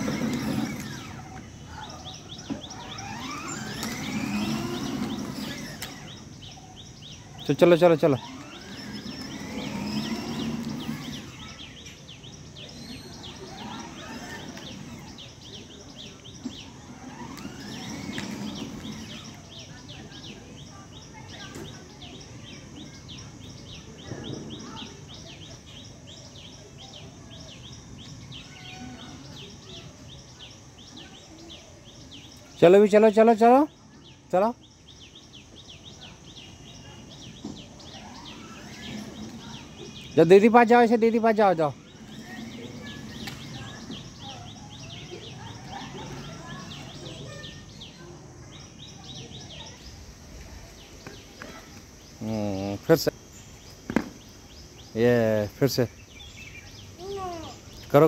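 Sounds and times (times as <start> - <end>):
bird chirping: 0.0 - 58.0
faint outdoor background noise: 0.0 - 58.0.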